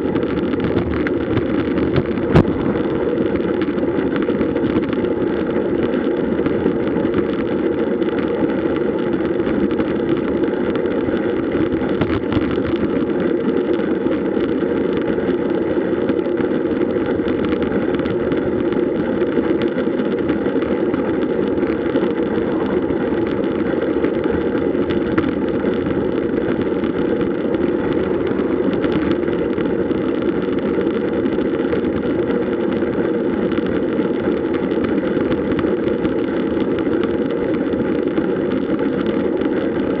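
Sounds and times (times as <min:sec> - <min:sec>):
bicycle road noise: 0:00.0 - 0:40.0.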